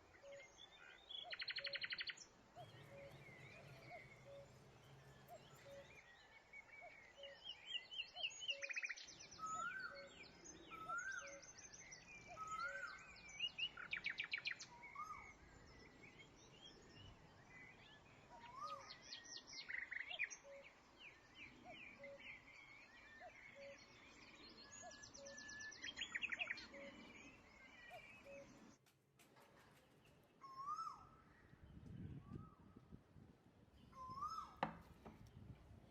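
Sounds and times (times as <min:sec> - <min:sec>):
birds chirping and trilling: 0:00.0 - 0:28.8, 0:29.6 - 0:32.6, 0:33.8 - 0:35.9.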